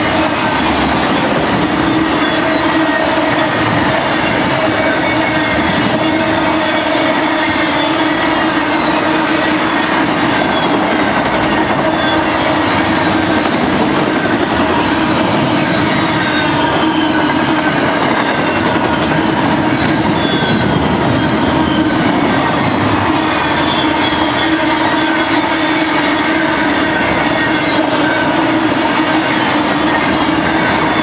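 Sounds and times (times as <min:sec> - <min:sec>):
freight train wheels rolling: 0:00.0 - 0:31.0.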